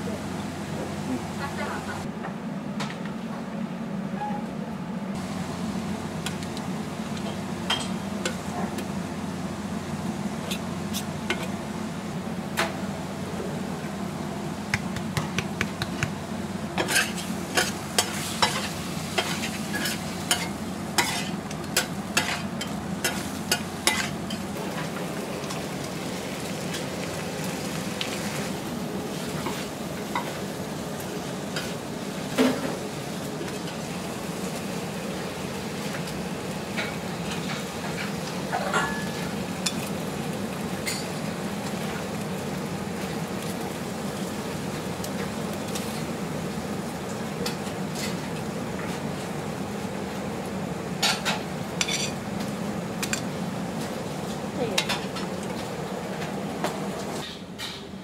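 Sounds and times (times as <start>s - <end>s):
noodles sizzling on griddle: 5.2s - 57.4s.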